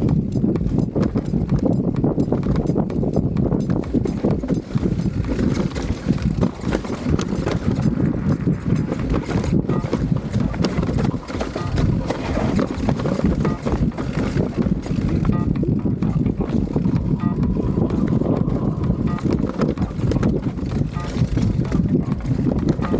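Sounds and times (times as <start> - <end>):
clicks and clunks from bike frame: 0.0 - 17.4, 19.0 - 22.9
heavy low rumble: 0.0 - 22.9
mountain bike rattling and knocking: 0.0 - 22.9.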